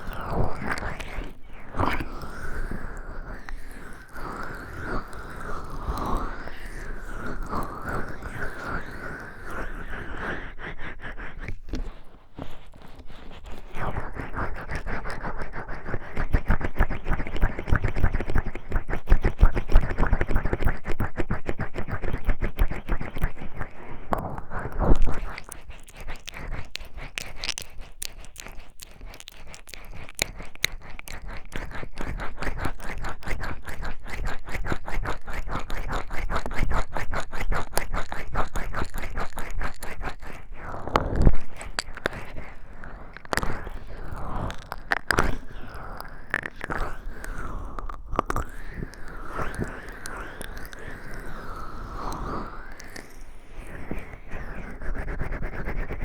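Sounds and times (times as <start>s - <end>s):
wet crackling rubbing on microphone: 0.0s - 56.0s.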